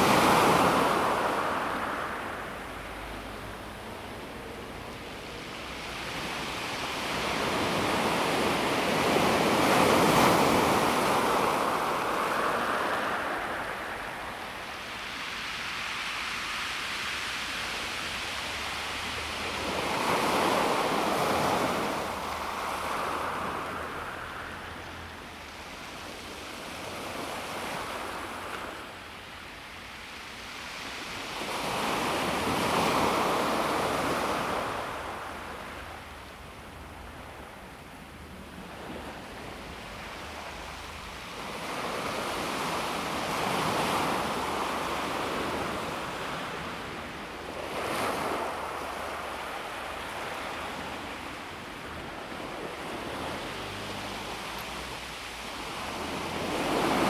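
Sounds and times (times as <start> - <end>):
waves on pebble beach: 0.0 - 2.9, 5.9 - 29.1, 29.8 - 36.1, 38.6 - 57.0.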